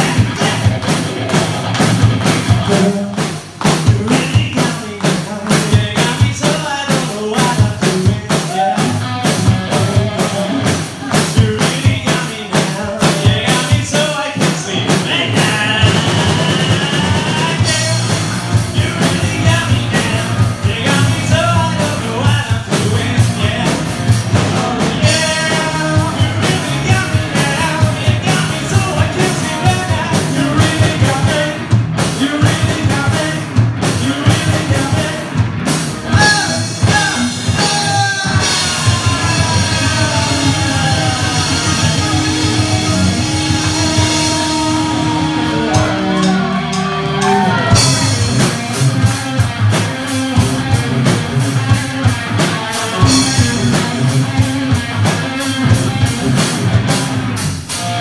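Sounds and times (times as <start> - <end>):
man singing: 0.0 - 35.4, 36.0 - 56.5
rock band playing live: 0.0 - 58.0.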